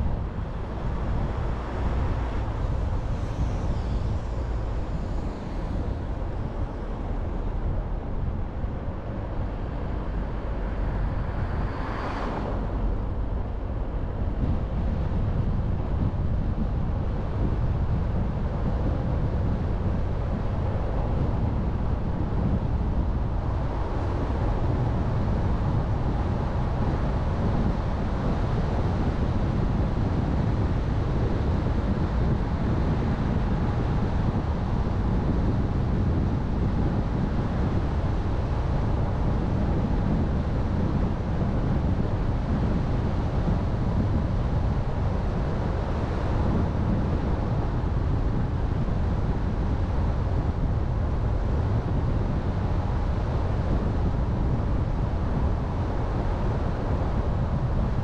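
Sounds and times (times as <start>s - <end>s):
car road rumble: 0.0s - 58.0s.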